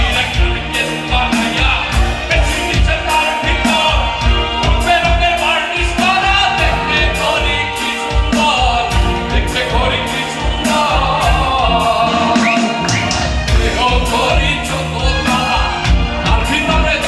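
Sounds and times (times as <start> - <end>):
drums steady beat: 0.0 - 17.0
guitar: 0.0 - 17.0
keyboard: 0.0 - 17.0
man singing into microphone: 0.0 - 17.0.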